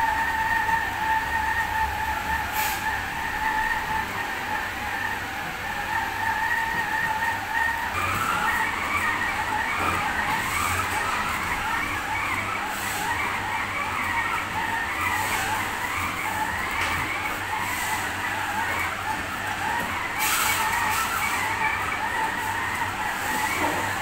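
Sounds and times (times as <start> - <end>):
stand mixer motor whine: 0.0 - 24.0.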